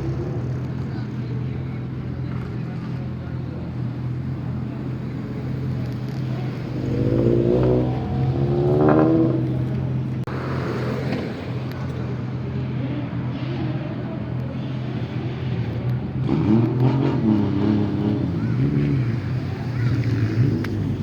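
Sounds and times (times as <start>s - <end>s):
car engines running: 0.0s - 21.0s
car engine revving: 3.4s - 21.0s.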